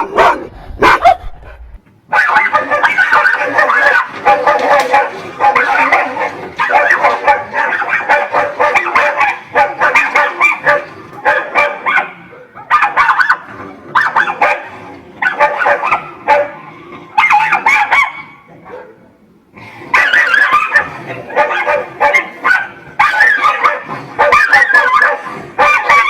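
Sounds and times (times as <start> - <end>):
dogs barking aggressively: 0.0 - 26.0.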